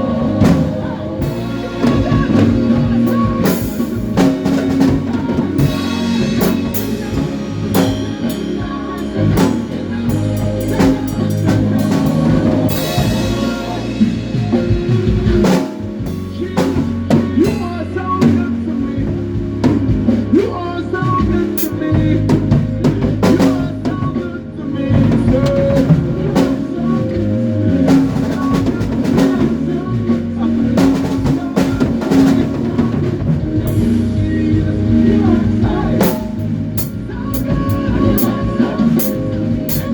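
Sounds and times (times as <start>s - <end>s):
drum kit hits: 0.0s - 24.2s, 25.0s - 39.9s
live band playing: 0.0s - 39.9s.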